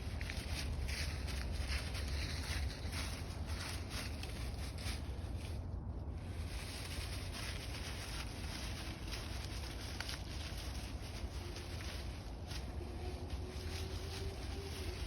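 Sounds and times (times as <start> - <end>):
light rustles and crunches: 0.0 - 15.0
wind rumbling on microphone: 0.0 - 15.0.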